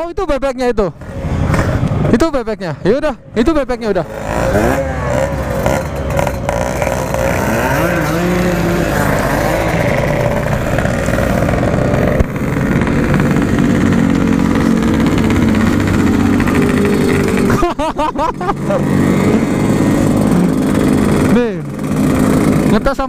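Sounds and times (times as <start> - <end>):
two-stroke motorcycle engine running: 3.4 - 23.0.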